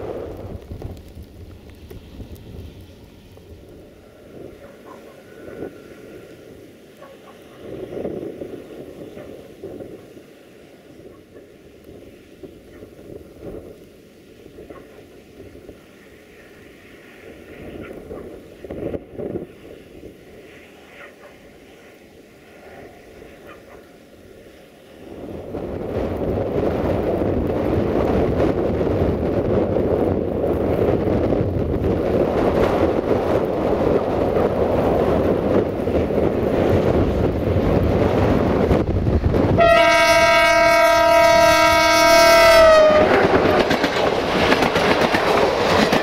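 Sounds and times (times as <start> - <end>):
wind buffeting microphone: 0.0 - 16.0, 16.7 - 20.6, 24.8 - 46.0.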